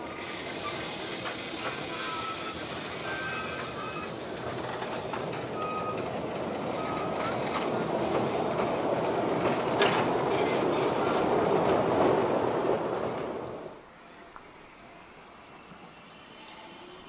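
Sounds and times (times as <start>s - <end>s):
train wheels rumbling on rails: 0.0s - 13.8s.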